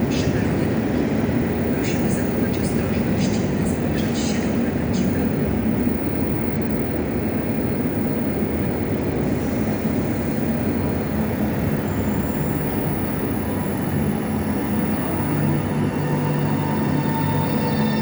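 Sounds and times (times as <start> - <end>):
electric train rolling rumble: 0.0 - 18.0
faint high whine: 0.0 - 18.0.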